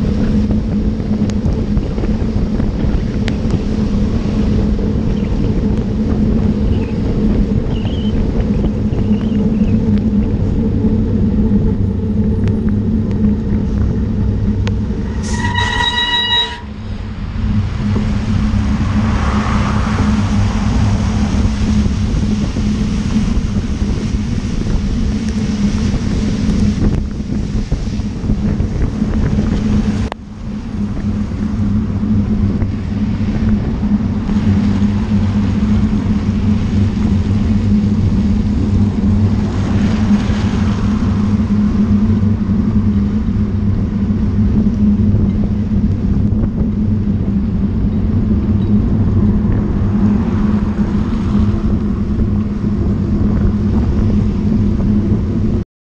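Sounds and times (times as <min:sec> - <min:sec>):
traffic: 0:00.0 - 0:55.6
wind buffeting microphone: 0:00.0 - 0:55.6.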